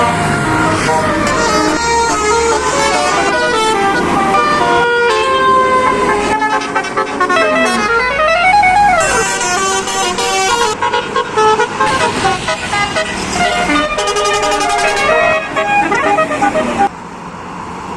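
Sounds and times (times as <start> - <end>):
multi-tone bus air horns: 0.0 - 16.9.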